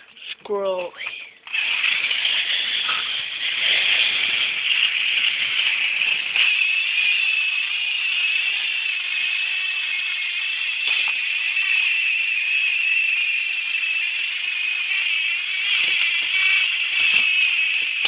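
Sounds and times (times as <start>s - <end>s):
toy train motors whirring: 0.0s - 18.0s.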